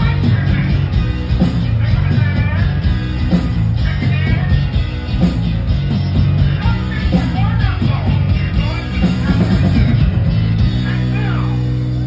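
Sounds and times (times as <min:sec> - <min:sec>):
electric guitar lead line bending: 0:00.0 - 0:12.0
rock band playing live: 0:00.0 - 0:12.0.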